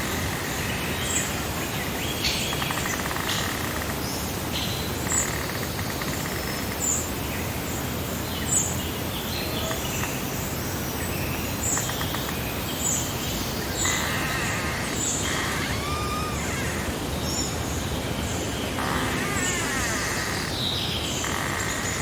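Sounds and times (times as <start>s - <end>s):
birds calling and singing: 0.0s - 22.0s
breeze hiss: 0.0s - 22.0s.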